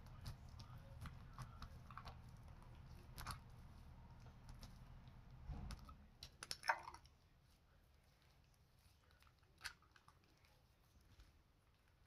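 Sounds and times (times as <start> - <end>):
slime squelching in hands: 0.0 - 12.0.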